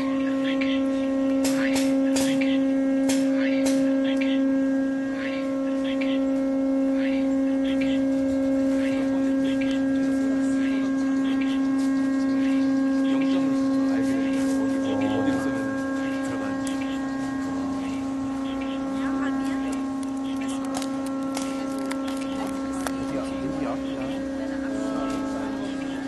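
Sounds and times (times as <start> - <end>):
low hum with overtone: 0.0 - 26.0.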